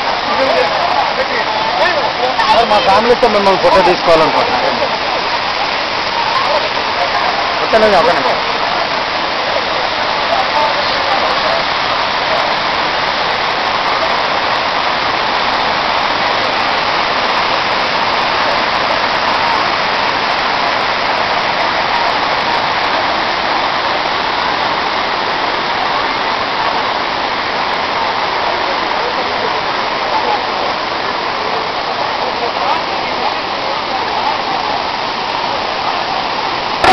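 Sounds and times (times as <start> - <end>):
waterfall rushing onto rock: 0.0 - 36.9.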